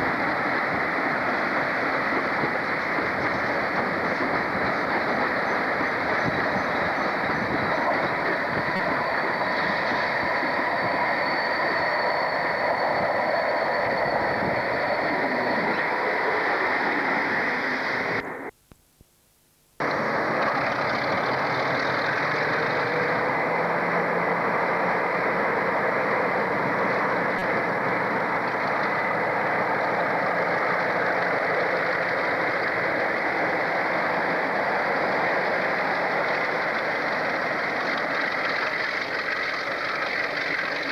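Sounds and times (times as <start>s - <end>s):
muffled train running: 0.0s - 18.6s, 19.8s - 40.9s.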